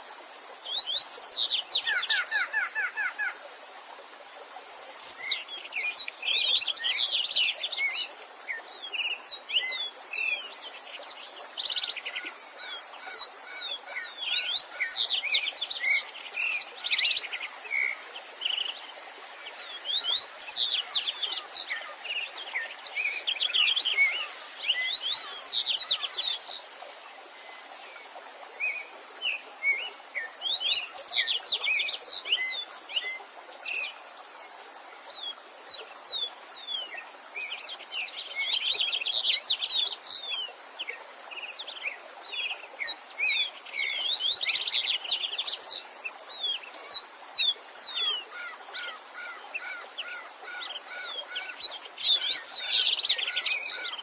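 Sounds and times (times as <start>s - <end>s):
songbirds singing: 0.0s - 3.5s, 4.3s - 54.0s
stream rushing: 0.0s - 54.0s.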